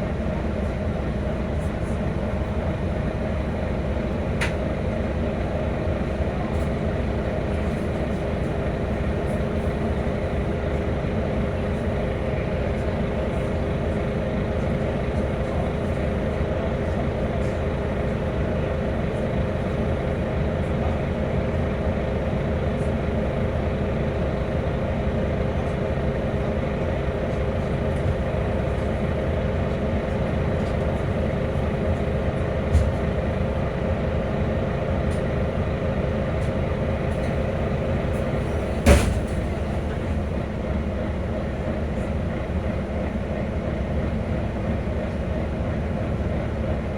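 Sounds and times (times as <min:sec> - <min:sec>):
bus engine droning: 0:00.0 - 0:46.9.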